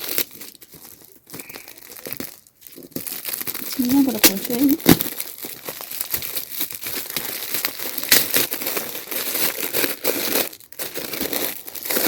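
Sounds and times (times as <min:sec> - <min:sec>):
gift wrapping crinkling and tearing: 0:00.0 - 0:12.0.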